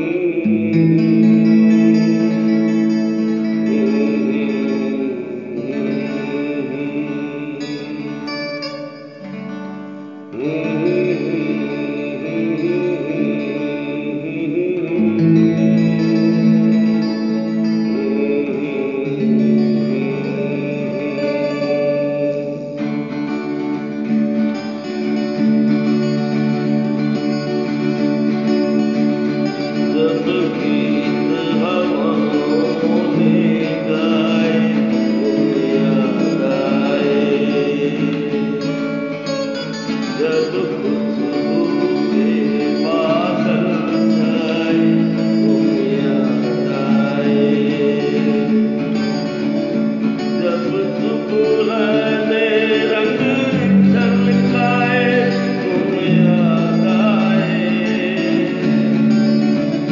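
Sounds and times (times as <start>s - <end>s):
man singing: 0.0s - 9.3s, 10.3s - 23.9s, 24.6s - 59.9s
strummed acoustic guitar: 0.0s - 59.9s.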